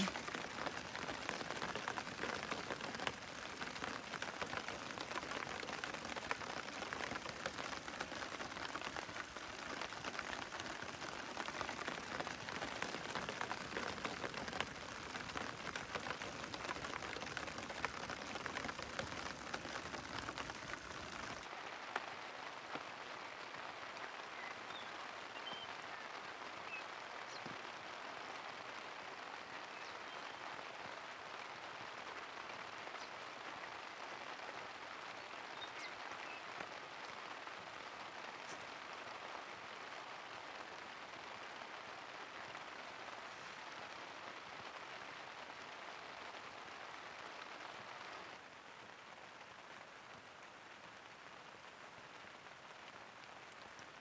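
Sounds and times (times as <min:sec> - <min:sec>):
rain on a tent: 0:00.0 - 0:54.0.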